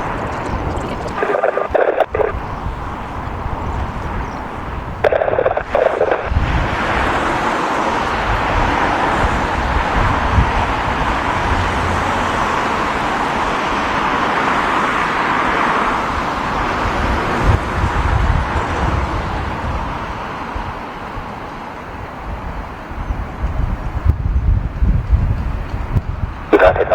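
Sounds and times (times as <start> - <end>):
wind on microphone: 0.0 - 14.1, 15.9 - 26.9
jet engine rush: 0.0 - 24.8, 25.4 - 26.9.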